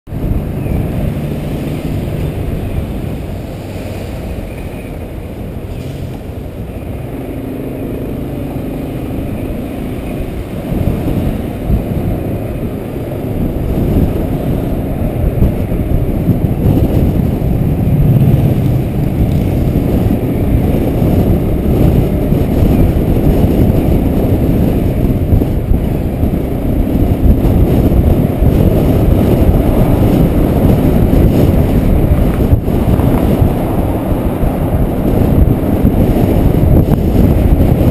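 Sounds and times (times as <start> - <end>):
wind and road noise: 0.0 - 37.9
motorcycle engine running: 6.8 - 37.9.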